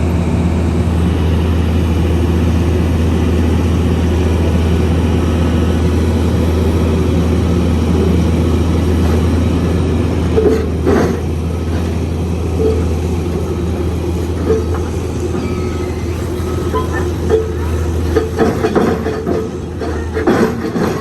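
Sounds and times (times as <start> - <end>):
heavy machine engine humming: 0.0 - 21.0.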